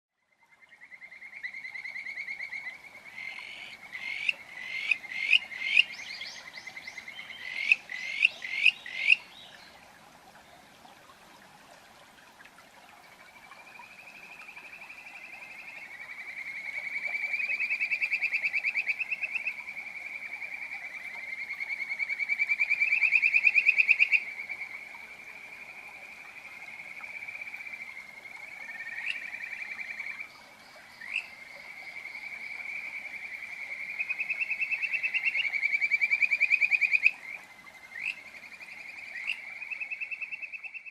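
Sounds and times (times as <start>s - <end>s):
frogs trilling: 0.6s - 9.6s, 13.0s - 40.9s.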